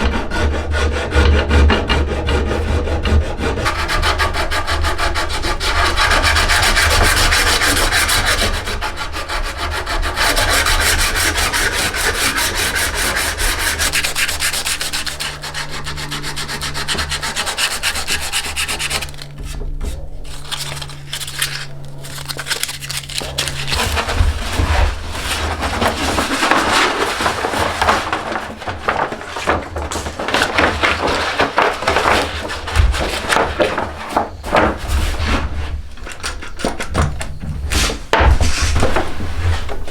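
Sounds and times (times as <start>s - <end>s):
hand tool rubbing wood: 0.0s - 39.9s.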